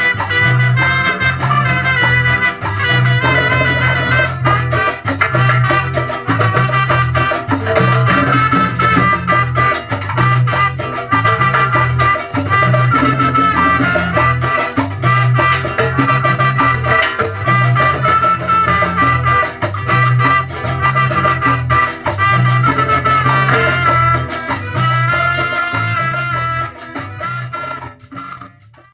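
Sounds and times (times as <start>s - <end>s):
pulsing bass line: 0.0s - 28.4s
live band playing latin music: 0.0s - 28.9s.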